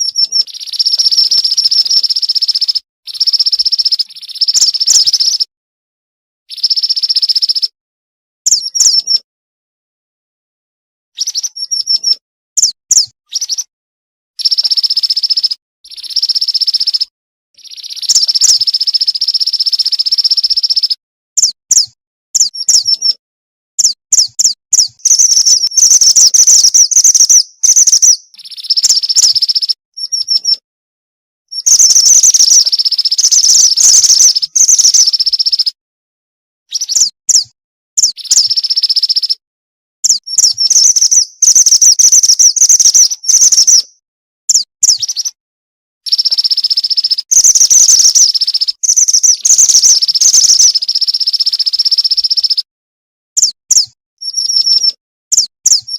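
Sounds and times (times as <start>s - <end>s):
bird chirping trills: 0.0s - 5.5s, 6.5s - 7.7s, 8.5s - 9.2s, 11.2s - 13.7s, 14.4s - 23.2s, 23.8s - 30.6s, 31.5s - 35.8s, 36.7s - 39.4s, 40.0s - 45.4s, 46.1s - 52.6s, 53.4s - 55.9s.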